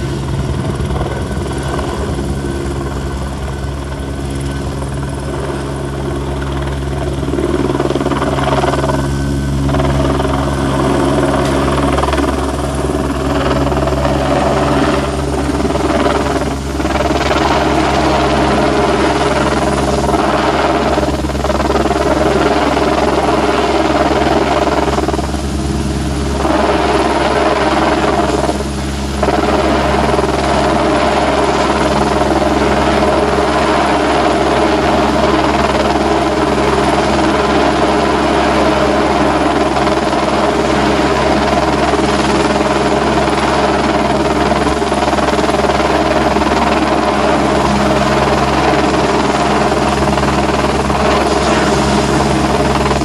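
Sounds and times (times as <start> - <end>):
helicopter hovering: 0.0 - 53.0.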